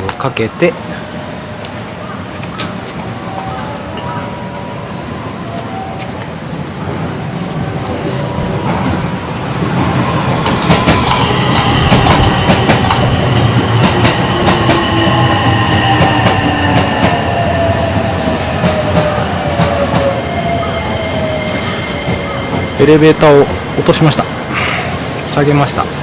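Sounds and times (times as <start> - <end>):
train wheels clicking: 0.0 - 4.9, 5.5 - 26.0
electric train motor whine: 0.8 - 24.6.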